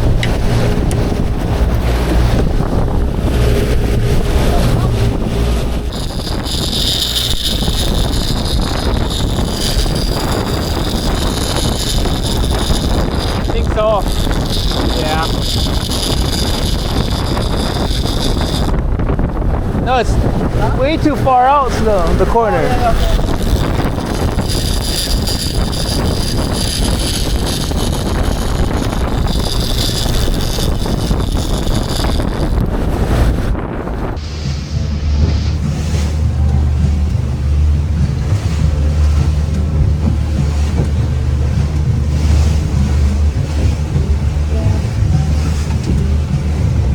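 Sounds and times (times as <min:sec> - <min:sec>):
boat engine running: 0:00.0 - 0:46.9
water rushing along hull: 0:00.0 - 0:46.9
wind buffeting microphone: 0:00.0 - 0:46.9.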